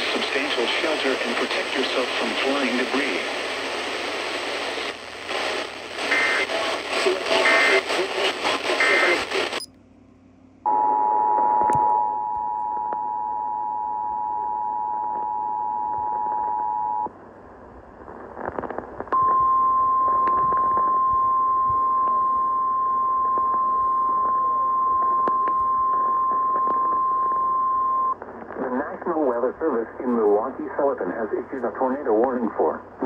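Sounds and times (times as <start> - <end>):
faint radio static crackles: 0.0 - 9.7, 10.7 - 33.0.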